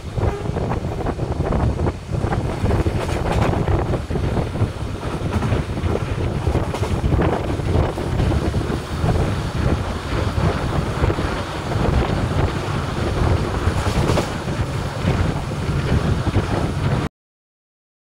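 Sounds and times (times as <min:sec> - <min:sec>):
train coach rumbling on track: 0:00.0 - 0:17.1
wind buffeting microphone: 0:00.0 - 0:17.1.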